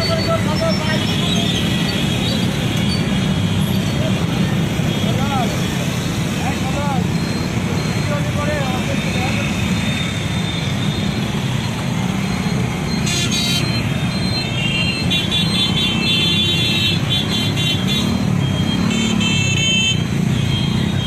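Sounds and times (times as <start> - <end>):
horns beeping: 0.0 - 21.0.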